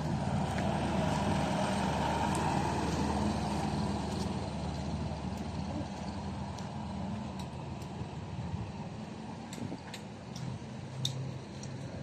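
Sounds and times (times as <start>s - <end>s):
delivery truck engine droning: 0.0s - 12.0s.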